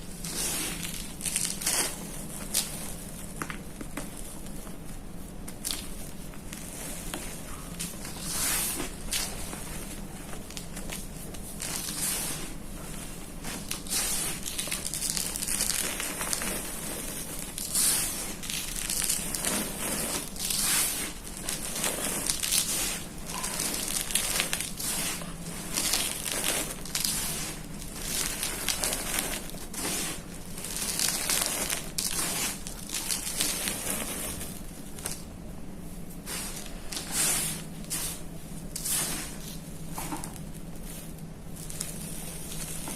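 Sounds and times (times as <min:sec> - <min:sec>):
chalk crunching under rolling pin: 0:00.0 - 0:35.3, 0:36.1 - 0:42.9.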